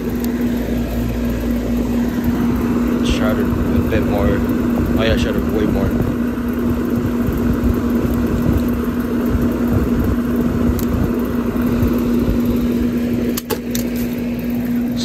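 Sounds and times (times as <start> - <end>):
compressor humming: 0.0 - 15.0
fan rushing: 0.0 - 15.0.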